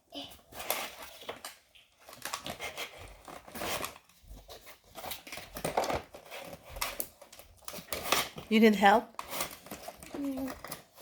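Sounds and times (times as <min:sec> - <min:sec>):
packaging crinkling and rustling: 0:00.2 - 0:11.0.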